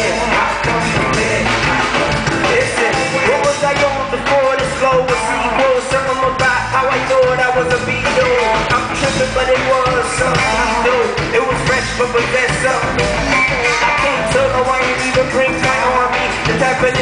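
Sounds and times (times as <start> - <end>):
electric guitar: 0.0 - 17.0
live band playing: 0.0 - 17.0
person singing: 0.0 - 17.0.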